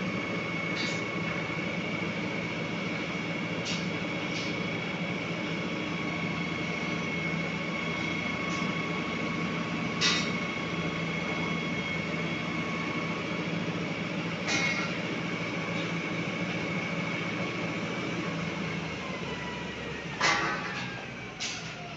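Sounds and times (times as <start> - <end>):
high whine: 0.0 - 19.2
concrete pump droning: 0.0 - 21.9.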